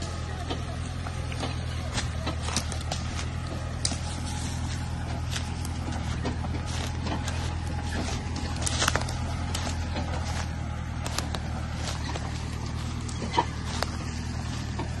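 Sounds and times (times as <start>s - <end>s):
tractor engine running: 0.0s - 15.0s
trailer knocking and rattling: 0.0s - 15.0s.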